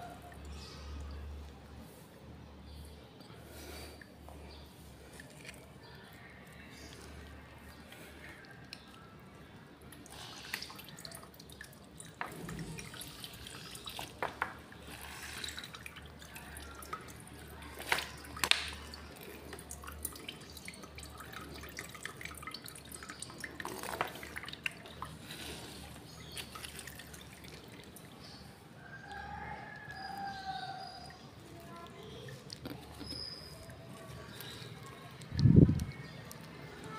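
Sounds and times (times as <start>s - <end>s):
water dripping and trickling: 0.0s - 2.1s, 3.9s - 36.9s.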